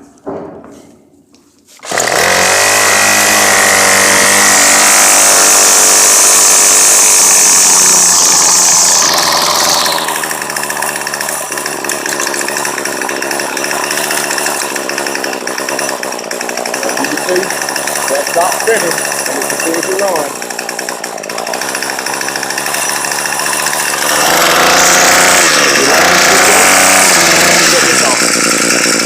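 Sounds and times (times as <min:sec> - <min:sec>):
string trimmer engine running: 0:01.8 - 0:29.0.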